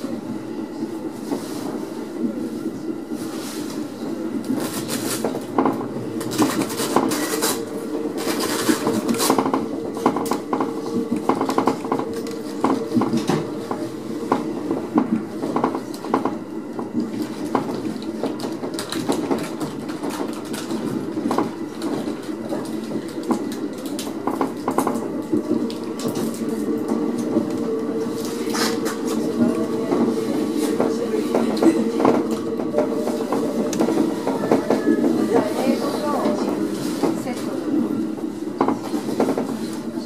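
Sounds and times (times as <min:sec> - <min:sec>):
electric train hum: 0:00.0 - 0:40.0.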